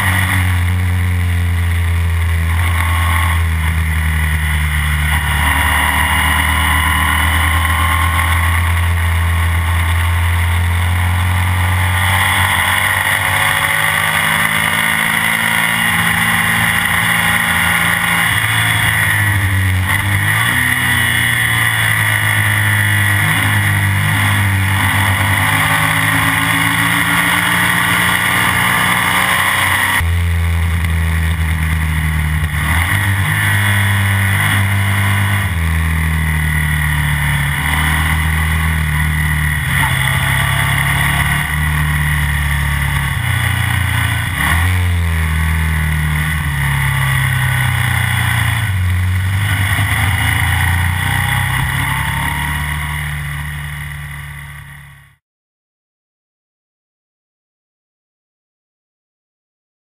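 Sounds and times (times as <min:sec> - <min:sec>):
motorcycle engine revving: 0:00.0 - 0:55.2.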